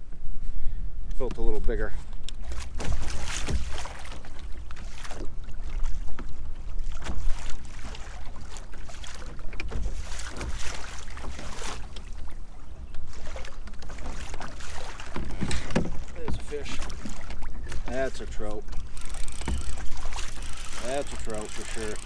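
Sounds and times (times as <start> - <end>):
water slapping against kayak hull: 1.4 - 22.0.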